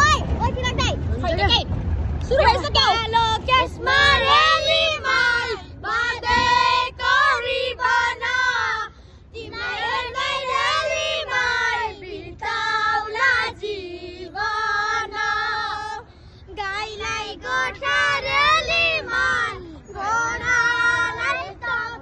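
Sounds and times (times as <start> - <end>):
children singing in unison: 3.8 - 16.0, 16.6 - 22.0.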